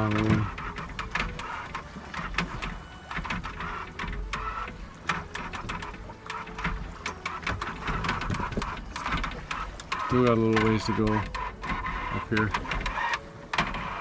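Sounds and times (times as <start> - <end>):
boat gear clicking and knocking: 0.0 - 14.0
wind rumble on microphone: 0.0 - 14.0.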